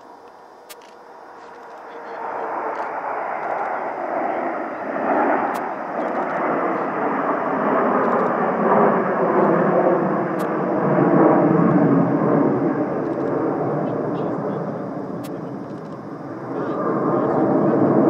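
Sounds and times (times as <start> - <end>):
jet engines flying overhead: 0.0 - 18.0.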